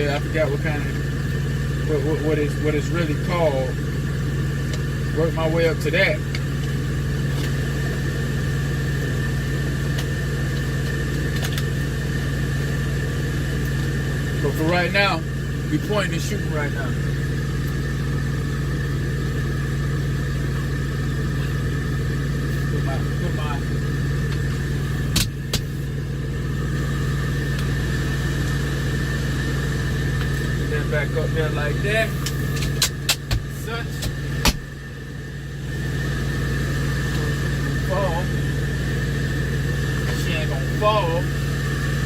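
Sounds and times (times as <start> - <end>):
truck diesel engine idling: 0.0 - 42.0.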